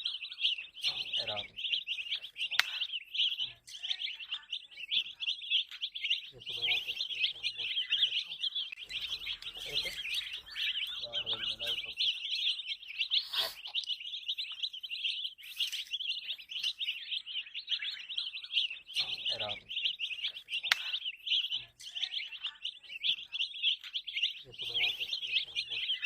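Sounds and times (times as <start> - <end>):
baby chicks peeping: 0.0 - 26.0.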